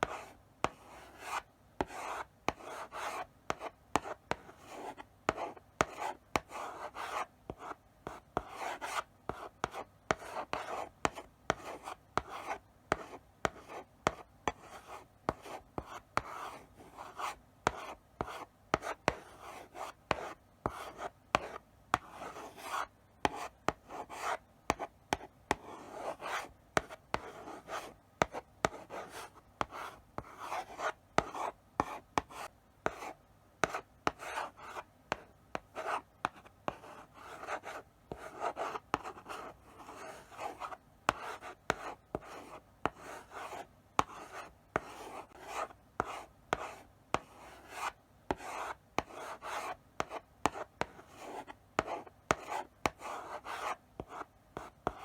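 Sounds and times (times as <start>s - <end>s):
chalk tapping on a board: 0.0s - 16.5s, 17.1s - 55.0s
chalk scratching on a blackboard: 8.4s - 35.2s, 35.8s - 55.0s.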